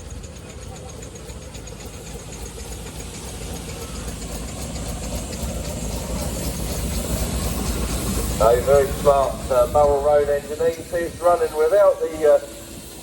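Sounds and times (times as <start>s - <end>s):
quick regular ticking: 0.0s - 11.8s
miniature steam engine running: 0.0s - 13.0s.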